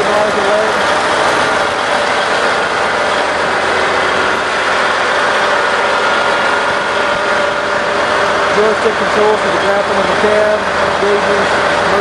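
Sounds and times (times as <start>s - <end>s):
diesel engine idling: 0.0s - 12.0s
steady whine: 0.0s - 12.0s.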